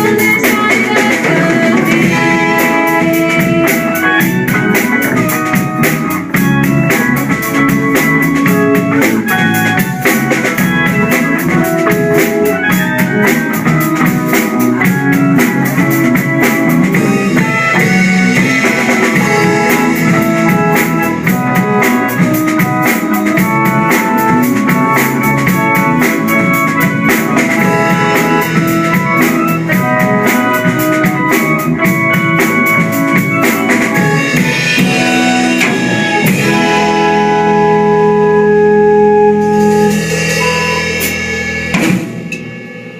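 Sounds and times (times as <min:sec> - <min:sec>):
drum kit steady beat: 0:00.0 - 0:42.9
guitar: 0:00.0 - 0:42.9.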